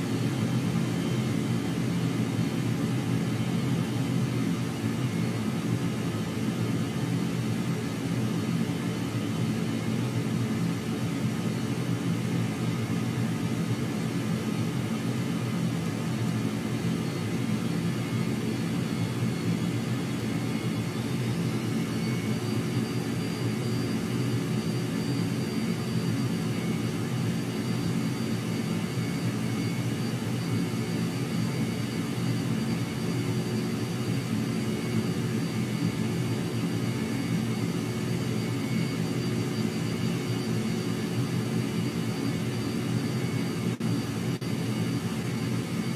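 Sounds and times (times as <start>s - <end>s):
jet engine whining: 0.0s - 45.9s.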